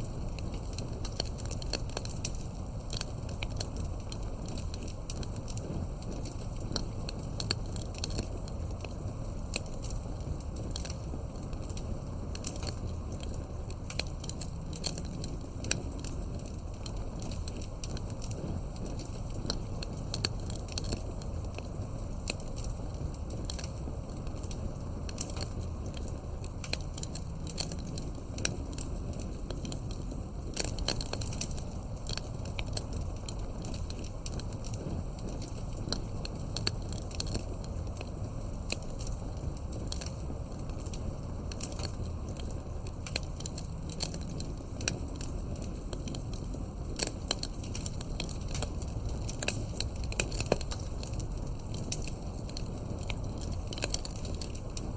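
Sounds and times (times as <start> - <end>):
campfire crackling and popping: 0.0 - 54.9
low rumble of burning fire: 0.0 - 54.9.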